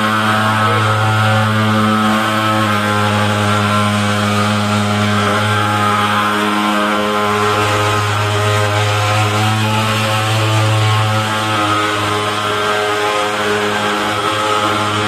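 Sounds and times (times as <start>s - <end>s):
pulse-jet fogging machine droning: 0.0s - 15.0s.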